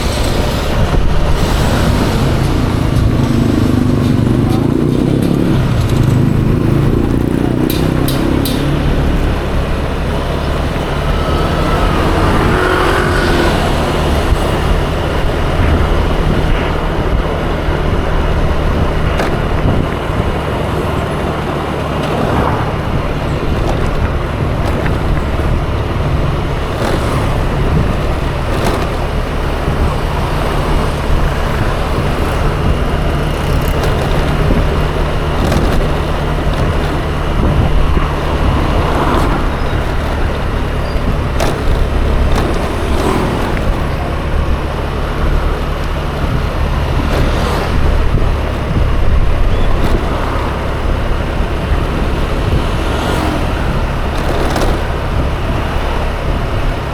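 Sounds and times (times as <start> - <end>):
road and traffic noise: 0.0 - 56.9
scooter engine running: 0.0 - 56.9.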